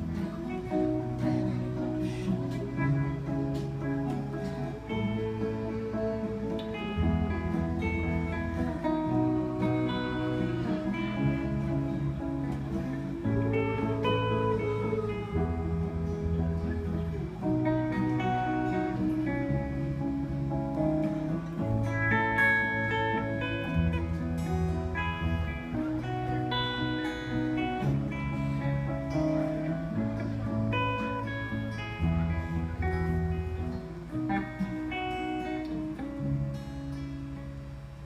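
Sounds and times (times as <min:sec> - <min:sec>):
guitar strumming chords: 0:00.0 - 0:38.0
low bass line: 0:00.0 - 0:38.0.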